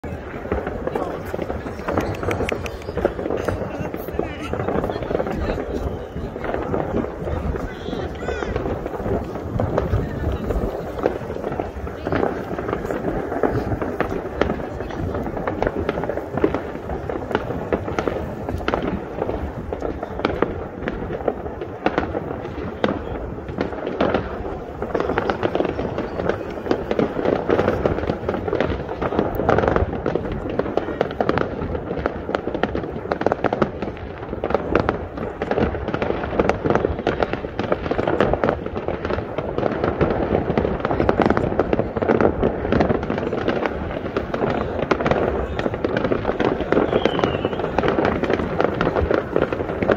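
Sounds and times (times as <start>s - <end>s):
fireworks crackling and banging: 0.0s - 49.9s.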